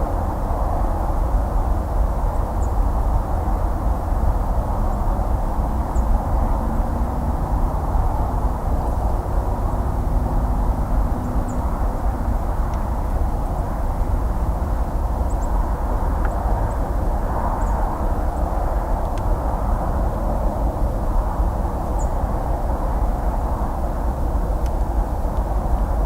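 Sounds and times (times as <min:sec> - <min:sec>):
distant highway traffic rumble: 0:00.0 - 0:26.0.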